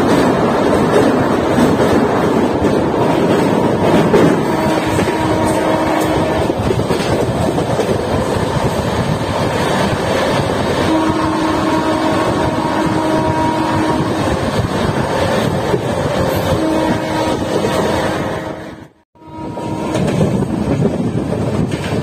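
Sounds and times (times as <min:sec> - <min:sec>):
rushing air: 0:00.0 - 0:19.0
train wheels rumbling on rail: 0:00.0 - 0:22.0.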